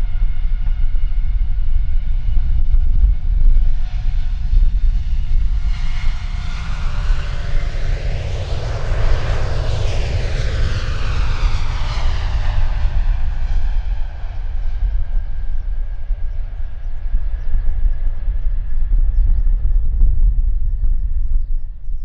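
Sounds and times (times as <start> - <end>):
jet engines roaring at takeoff: 0.0 - 21.8
low wind rumble on microphone: 0.0 - 22.0.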